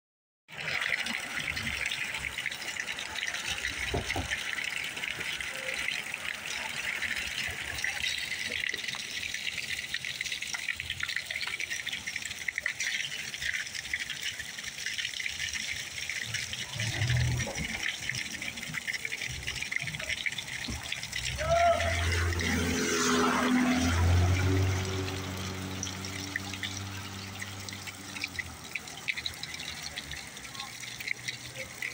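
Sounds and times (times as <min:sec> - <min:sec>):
water splashing onto pavement: 0:00.5 - 0:31.9.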